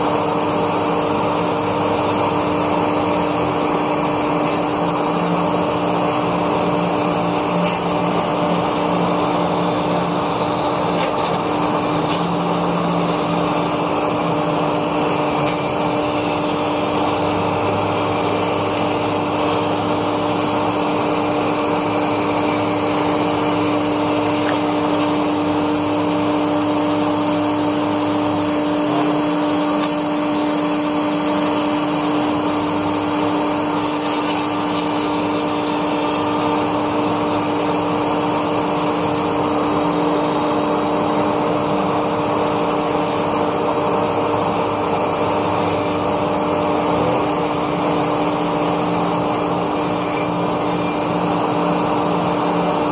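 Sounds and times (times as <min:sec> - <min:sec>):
cnc router cutting foam: 0:00.0 - 0:52.9.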